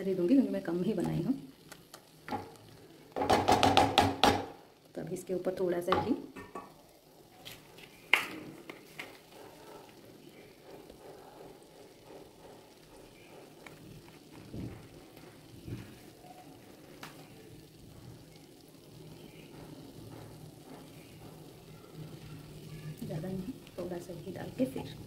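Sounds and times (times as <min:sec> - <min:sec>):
rice sizzling in a pan: 0:00.0 - 0:25.0.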